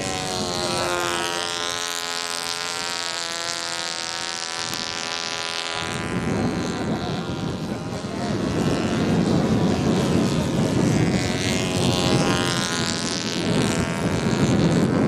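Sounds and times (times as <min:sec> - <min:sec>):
model airplane engines buzzing: 0:00.0 - 0:15.0.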